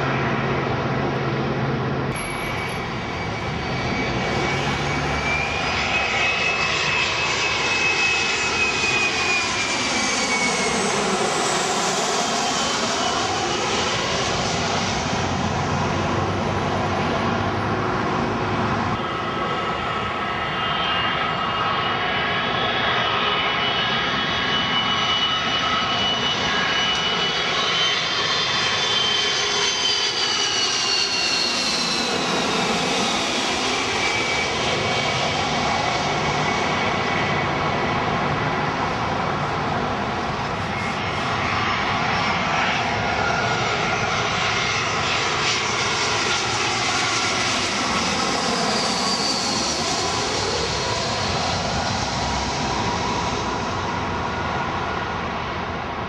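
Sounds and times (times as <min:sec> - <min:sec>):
jet engines whining overhead: 0:00.0 - 0:56.0.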